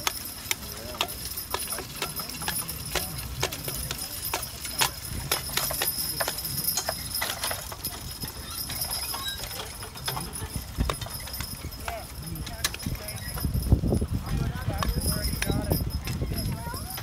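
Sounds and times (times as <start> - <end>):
harness chains clinking: 0.0 - 17.0
mule hooves clip-clopping: 0.0 - 17.0.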